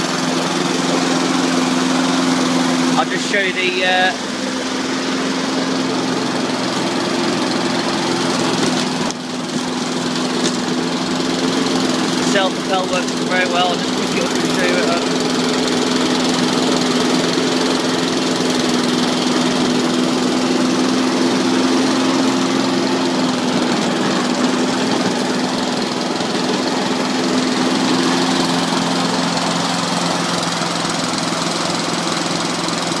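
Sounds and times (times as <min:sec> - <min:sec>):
lawnmower engine running: 0:00.0 - 0:33.0.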